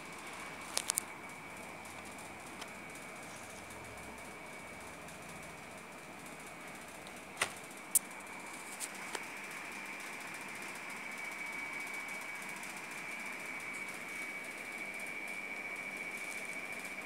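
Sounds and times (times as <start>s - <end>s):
faint high whine and hiss: 0.0s - 17.0s.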